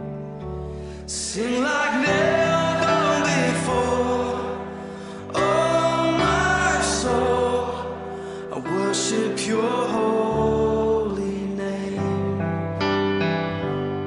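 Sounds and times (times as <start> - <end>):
slow song with singing voice: 0.0 - 14.0.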